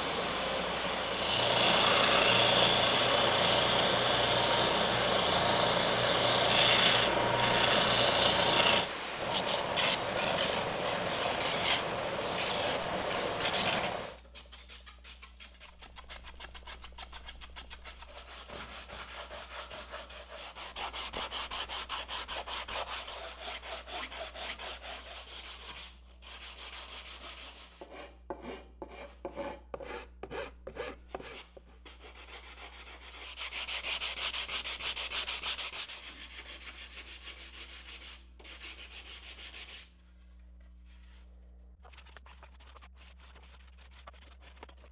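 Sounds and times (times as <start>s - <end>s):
sanding block on wood: 1.3s - 39.9s.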